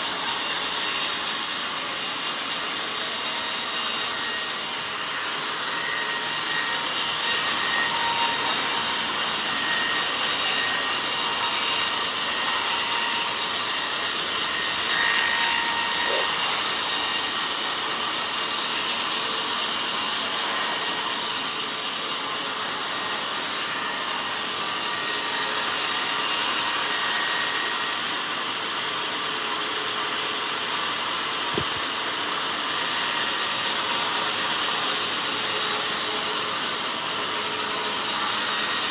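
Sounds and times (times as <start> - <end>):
band saw cutting log: 0.0 - 28.1, 30.6 - 38.9.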